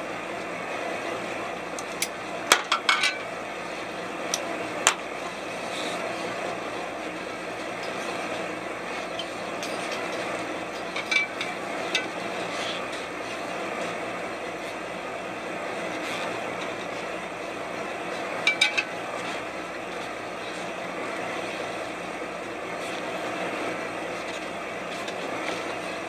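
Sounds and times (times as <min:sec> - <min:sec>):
boat engine and deck machinery: 0:00.0 - 0:26.0.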